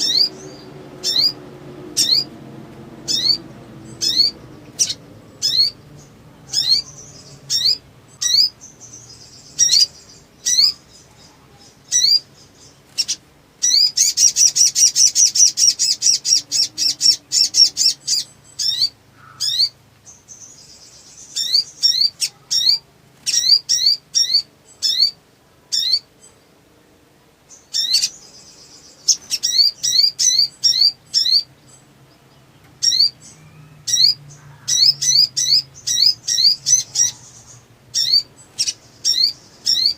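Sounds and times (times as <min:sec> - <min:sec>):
bird chirping and trilling: 0:00.0 - 0:26.5, 0:27.5 - 0:39.9.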